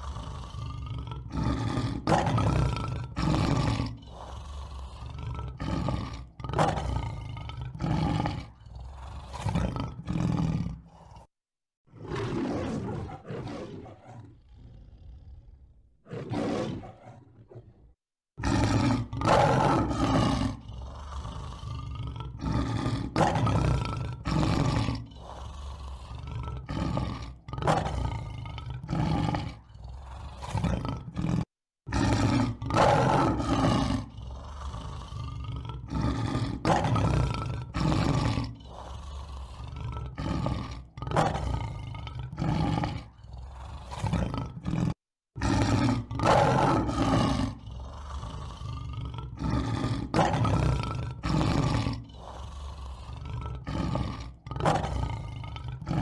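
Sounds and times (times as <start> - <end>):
lion roaring: 0.0 - 56.0.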